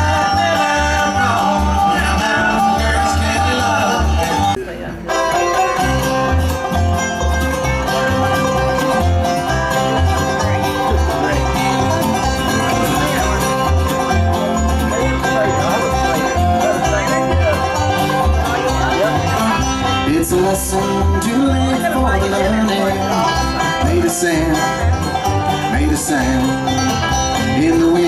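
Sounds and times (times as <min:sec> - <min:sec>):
acoustic guitar: 0:00.0 - 0:28.0
banjo: 0:00.0 - 0:28.0
lap slide guitar: 0:00.0 - 0:28.0
upright bass line: 0:00.0 - 0:28.0.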